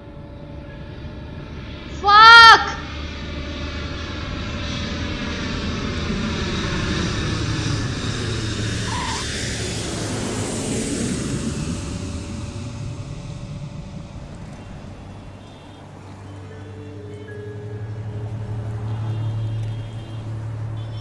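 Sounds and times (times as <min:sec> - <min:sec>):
falling engine whine: 0:00.0 - 0:21.0
jet engine rumble: 0:02.8 - 0:21.0.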